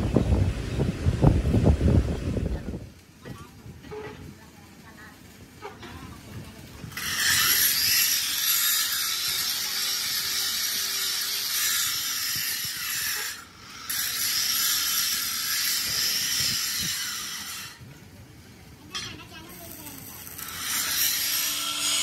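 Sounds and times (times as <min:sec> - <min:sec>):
hissing metalworking noise: 0:02.4 - 0:22.0.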